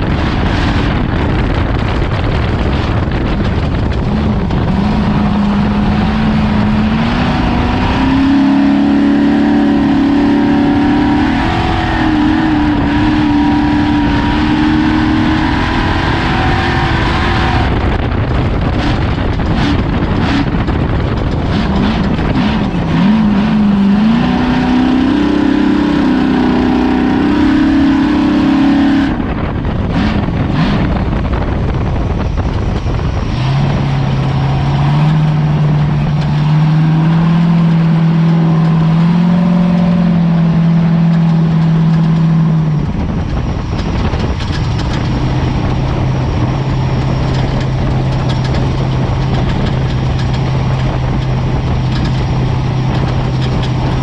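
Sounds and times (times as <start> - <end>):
constant rushing noise: 0.0 - 54.0
race vehicle engine: 0.0 - 54.0.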